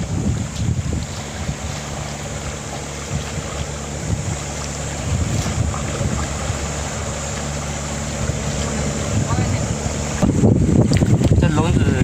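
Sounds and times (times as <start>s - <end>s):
faint low drone: 0.0s - 11.3s
wind buffeting microphone: 0.0s - 12.0s.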